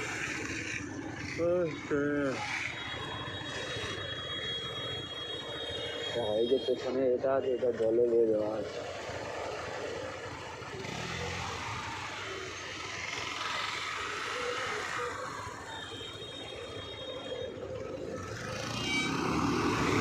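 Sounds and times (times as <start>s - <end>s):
vehicle engines: 0.0s - 20.0s.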